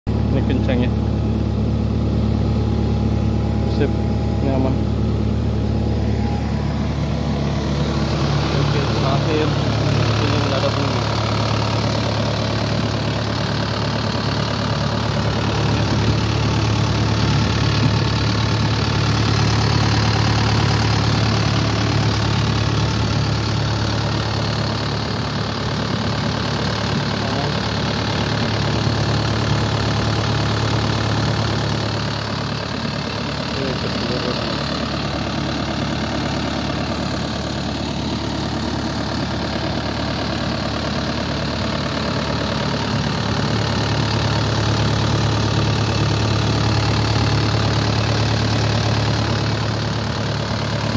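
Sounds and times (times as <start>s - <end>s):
diesel engine idling: 0.1s - 50.9s.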